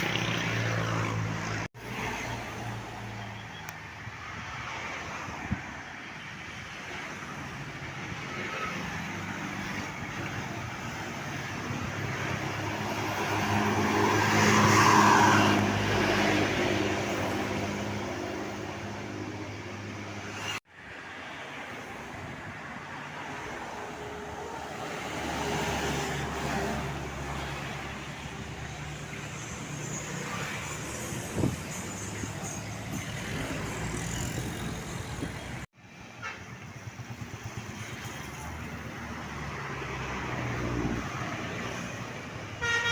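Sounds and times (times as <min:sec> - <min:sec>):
traffic noise: 0:00.0 - 0:42.9
large vehicles passing: 0:06.9 - 0:42.8.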